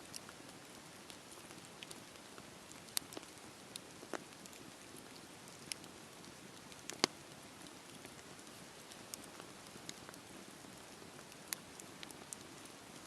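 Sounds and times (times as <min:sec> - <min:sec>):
fire crackling and popping: 0:00.0 - 0:13.0
campfire hissing: 0:00.1 - 0:13.0.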